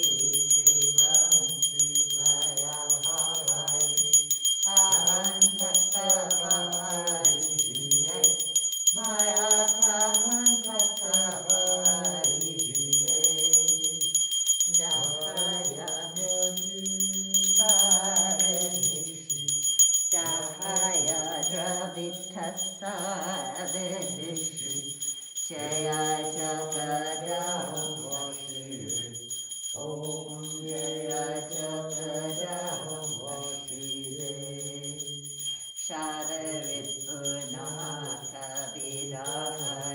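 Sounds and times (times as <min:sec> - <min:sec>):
group singing a hymn: 0:00.0 - 0:39.9
small bell rung rapidly: 0:00.0 - 0:39.9.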